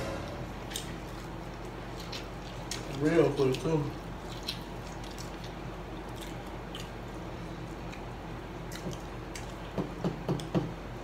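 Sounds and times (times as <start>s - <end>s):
people chewing: 0.6s - 10.5s.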